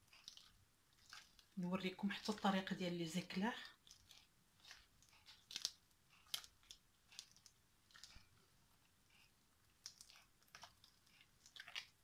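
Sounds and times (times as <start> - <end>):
spatula working dough in pot: 0.0 - 12.0.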